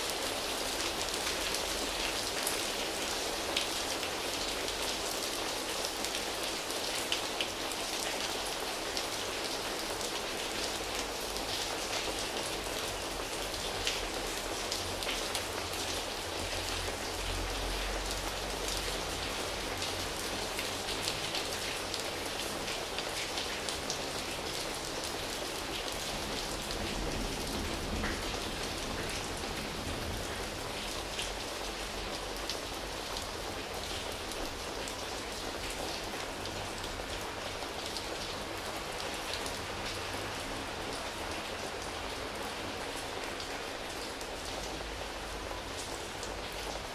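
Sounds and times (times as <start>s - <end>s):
rain pattering on leaves: 0.0s - 46.9s.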